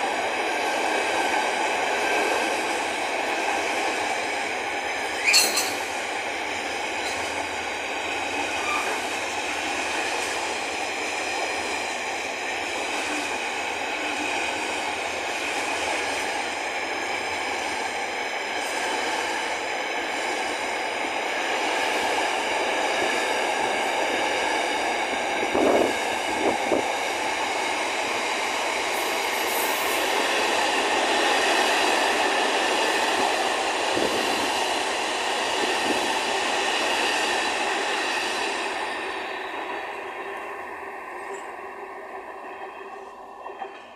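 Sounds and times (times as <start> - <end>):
train wheels rolling on rail: 0.0 - 43.9.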